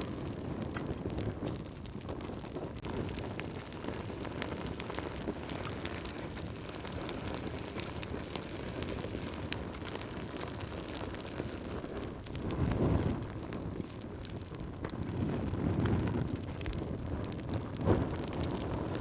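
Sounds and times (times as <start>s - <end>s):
low rush of flames: 0.0s - 19.0s
wood fire crackling: 0.0s - 19.0s.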